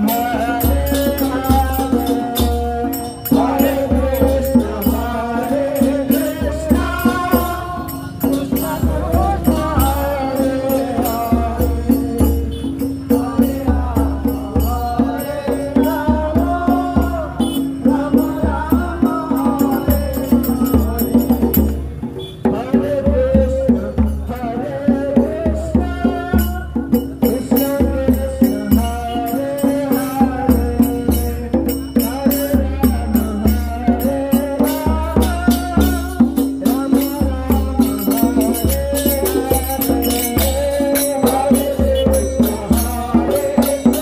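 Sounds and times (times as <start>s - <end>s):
hand cymbals clashing: 0.0s - 21.8s, 26.3s - 44.0s
hand drum beating: 0.0s - 44.0s.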